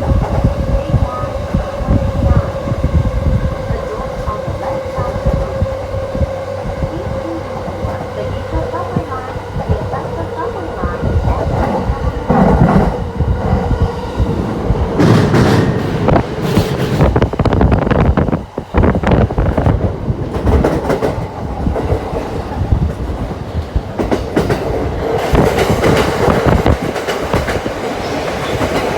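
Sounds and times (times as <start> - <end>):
train rumble: 0.0 - 28.9
train wheels clattering: 0.0 - 28.9.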